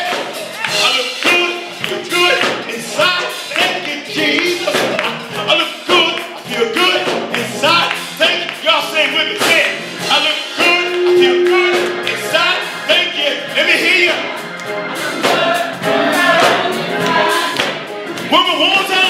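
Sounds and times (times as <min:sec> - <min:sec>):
instrumental backing: 0:00.0 - 0:19.0
person singing gospel: 0:00.0 - 0:19.0.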